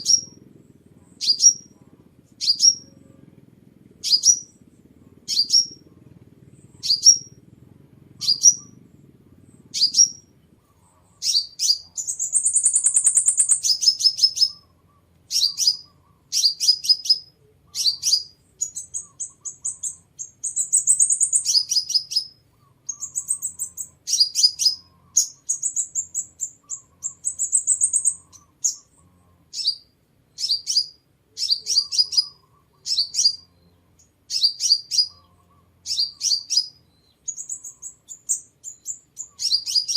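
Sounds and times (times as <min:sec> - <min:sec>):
rapid bird trills: 0:00.0 - 0:39.9.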